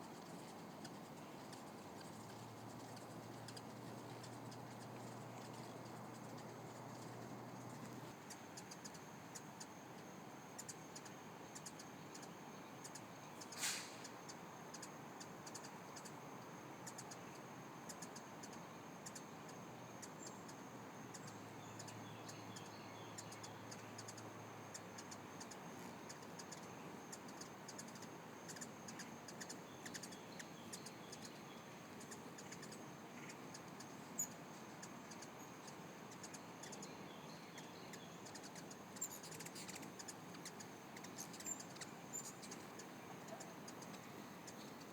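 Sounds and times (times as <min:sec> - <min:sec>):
hummingbirds chirping: 0:00.1 - 0:09.7, 0:10.5 - 0:16.2, 0:16.8 - 0:44.9.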